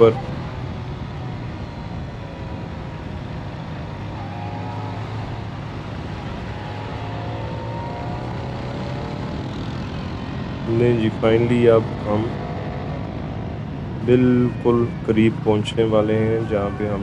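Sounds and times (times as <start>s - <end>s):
faint engine whine: 0.0s - 17.0s
motorcycle engines cruising: 0.0s - 17.0s
wind and road noise: 0.0s - 17.0s.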